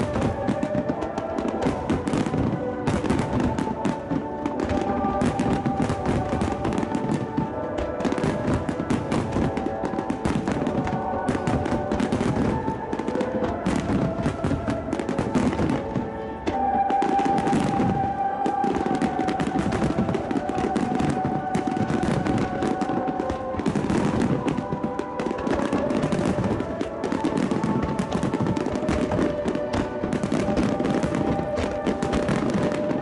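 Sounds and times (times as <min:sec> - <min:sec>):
fireworks bursting and crackling: 0:00.0 - 0:33.0
music with long held notes: 0:00.0 - 0:33.0.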